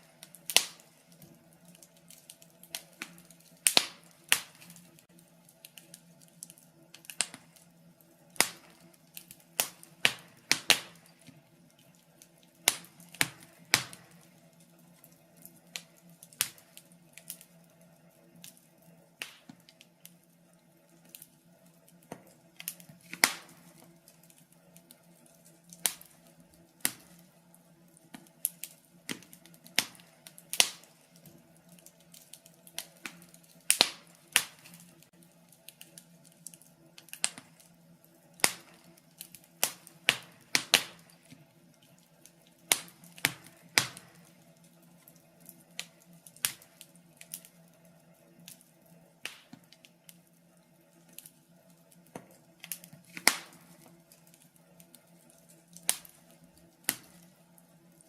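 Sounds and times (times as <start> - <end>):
faint steady hum: 0.0 - 58.0
wood fire crackling and popping: 0.0 - 58.0.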